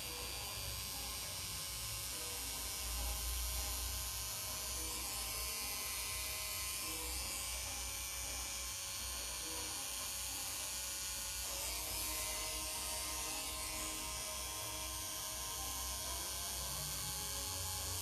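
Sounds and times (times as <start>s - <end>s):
tattoo machine buzzing: 0.0s - 18.0s.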